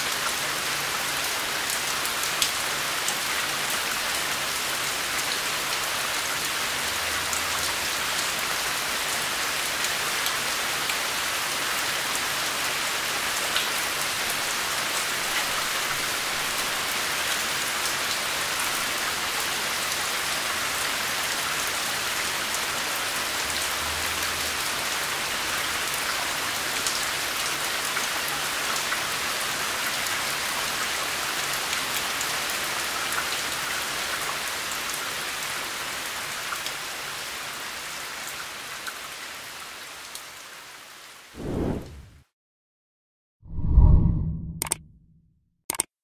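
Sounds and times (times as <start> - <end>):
steady rain falling: 0.0 - 41.3.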